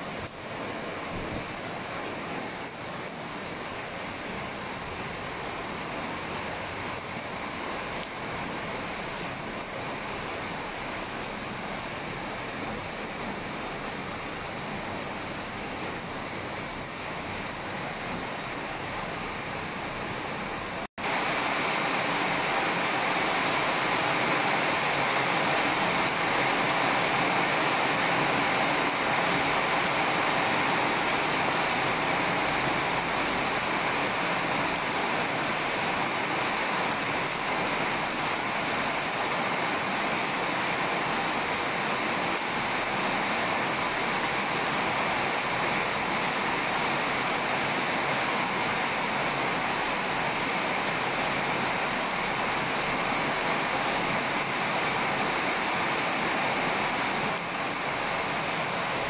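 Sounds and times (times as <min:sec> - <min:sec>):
flowing floodwater: 0:00.0 - 0:59.0
heavy rain: 0:00.0 - 0:59.0.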